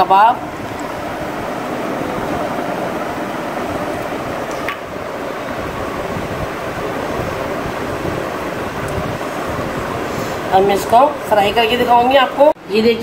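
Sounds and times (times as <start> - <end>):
steady whooshing fan noise: 0.0 - 13.0.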